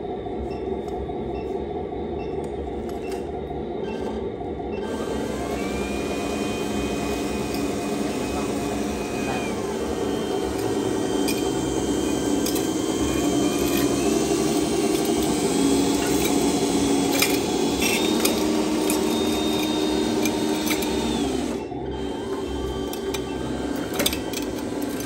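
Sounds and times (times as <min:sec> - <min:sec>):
toy truck motor whining: 0:04.8 - 0:25.0.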